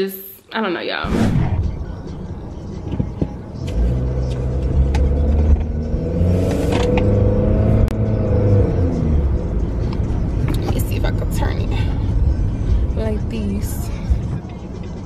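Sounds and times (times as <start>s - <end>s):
car engine rumble from inside: 1.6s - 15.0s.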